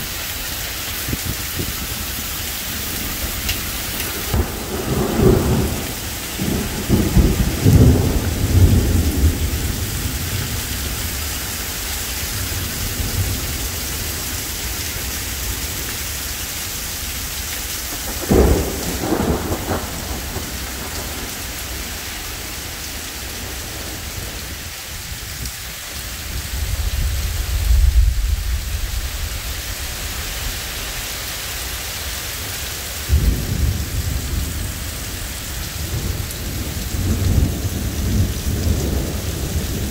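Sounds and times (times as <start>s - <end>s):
heavy rain pouring: 0.0s - 39.9s
thunder cracking and rumbling: 1.0s - 16.3s, 17.8s - 25.6s, 26.2s - 30.6s, 33.0s - 39.9s.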